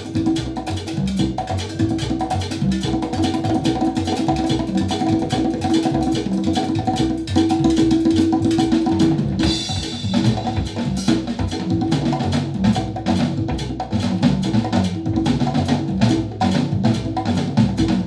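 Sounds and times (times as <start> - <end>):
music with drum beat over speakers: 0.0 - 18.0.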